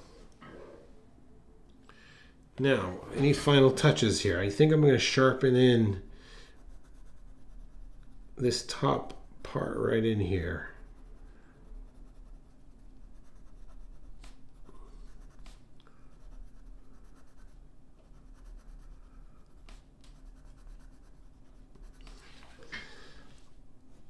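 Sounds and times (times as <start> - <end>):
pencil scratching on paper: 3.2 - 22.5.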